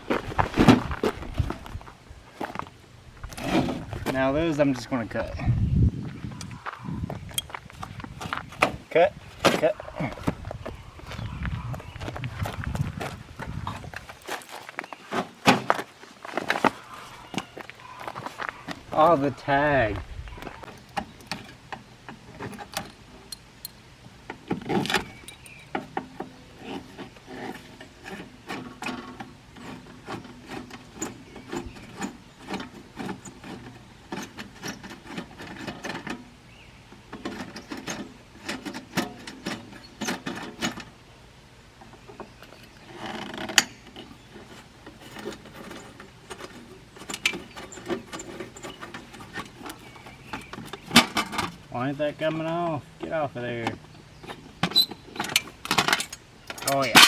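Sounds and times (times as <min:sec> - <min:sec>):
tools scraping on metal and plastic: 0:03.2 - 0:04.5, 0:07.2 - 0:23.4, 0:24.3 - 0:36.3, 0:37.0 - 0:41.0, 0:41.8 - 0:57.0.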